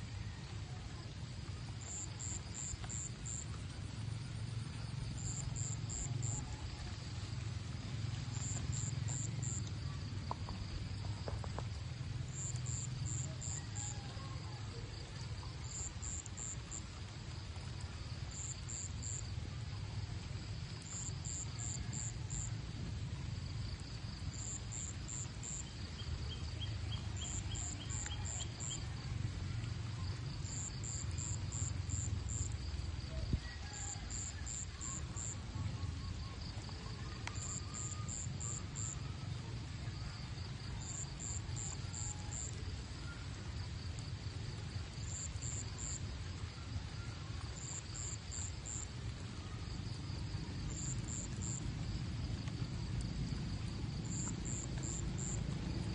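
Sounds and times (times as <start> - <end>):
insects chirping: 0.0 - 55.9.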